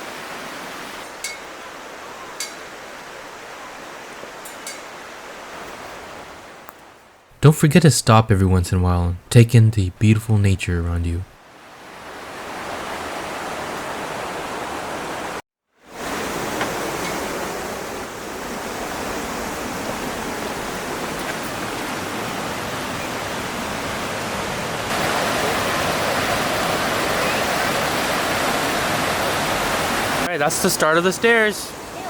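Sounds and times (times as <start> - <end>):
rushing creek water: 0.0 - 7.2, 11.4 - 32.0.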